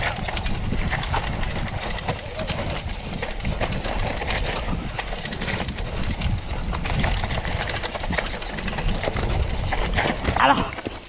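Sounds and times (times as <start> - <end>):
bike rattling over bumps: 0.0 - 11.0
wind buffeting microphone: 0.0 - 11.0.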